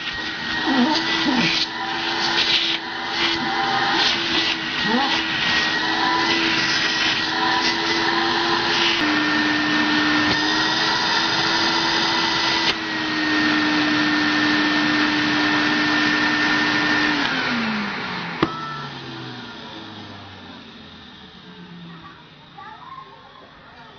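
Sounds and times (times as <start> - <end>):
vacuum motor winding down: 0.0 - 22.7
vacuum cleaner running: 0.0 - 23.9.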